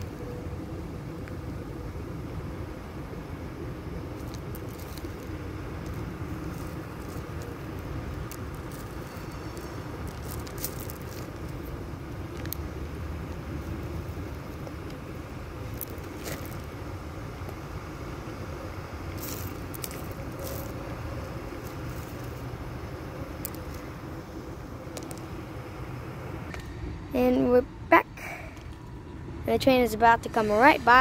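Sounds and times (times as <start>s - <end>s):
distant freight train rumble: 0.0s - 31.0s.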